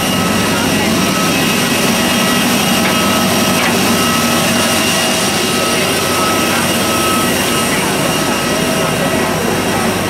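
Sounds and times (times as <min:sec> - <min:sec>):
high whining tones: 0:00.0 - 0:10.0
jet turbine roar: 0:00.0 - 0:10.0.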